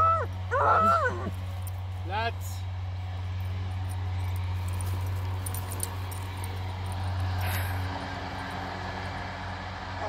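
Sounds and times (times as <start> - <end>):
distant engine drone: 0.0 - 10.0.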